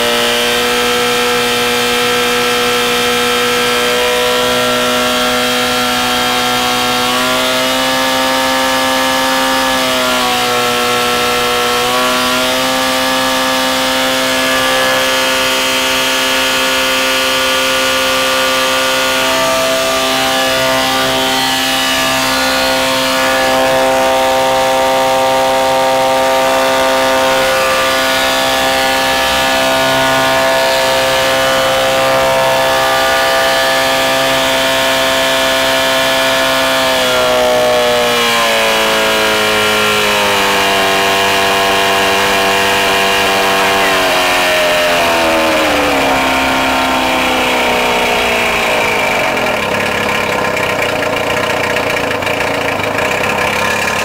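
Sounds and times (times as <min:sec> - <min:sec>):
outboard engine at high revs: 0:00.0 - 0:54.0.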